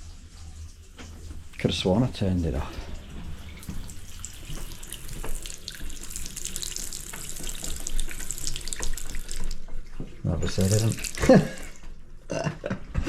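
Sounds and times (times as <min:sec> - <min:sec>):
water running from tap into sink: 0:00.0 - 0:12.0.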